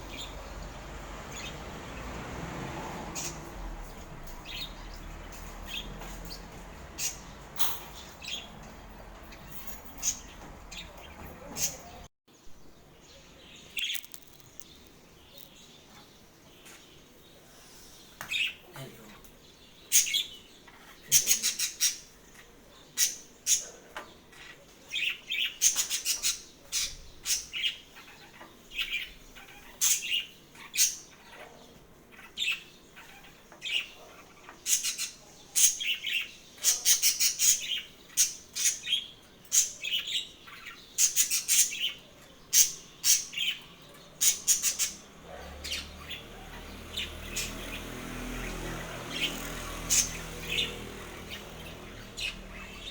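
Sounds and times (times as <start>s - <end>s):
small songbirds chirping: 0.0s - 52.9s.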